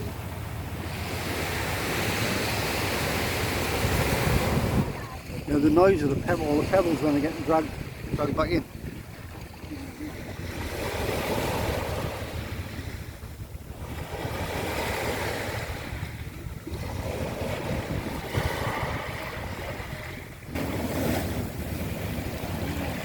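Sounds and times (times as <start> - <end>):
waves washing on pebble beach: 0.0 - 9.6, 10.2 - 23.0.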